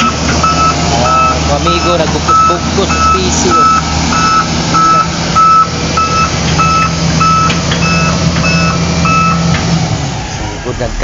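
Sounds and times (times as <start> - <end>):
reversing alarm beeping: 0.0 - 9.6
diesel engine running: 0.0 - 11.0.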